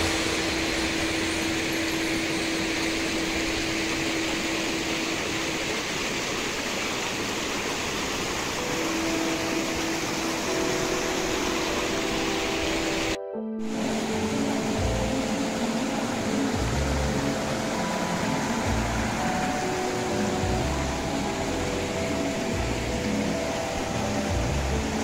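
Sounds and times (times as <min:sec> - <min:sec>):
river flowing over rocks: 0:00.0 - 0:25.0.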